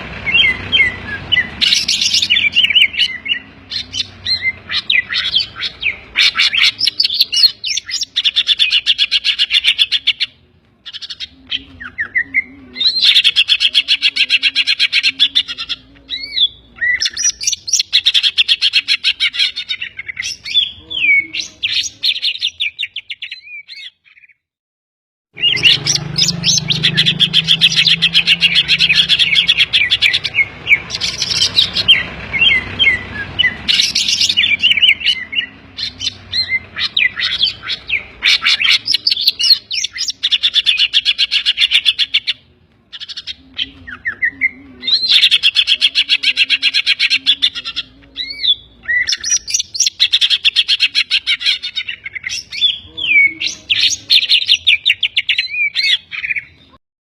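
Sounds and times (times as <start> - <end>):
bird song with chattering trills: 0.0 - 24.5, 25.4 - 56.8.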